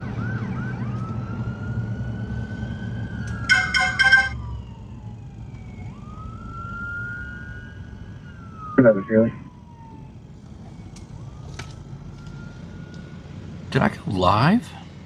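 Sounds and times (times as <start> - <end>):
emergency siren wailing: 0.0 - 14.1
traffic rumble: 0.0 - 15.0.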